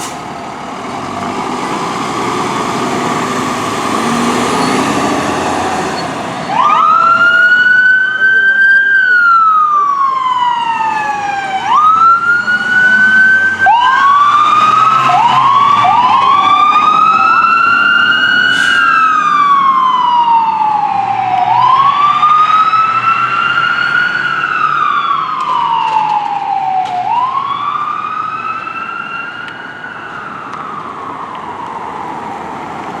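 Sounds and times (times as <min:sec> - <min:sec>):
fire truck sirens wailing: 0:00.0 - 0:33.0.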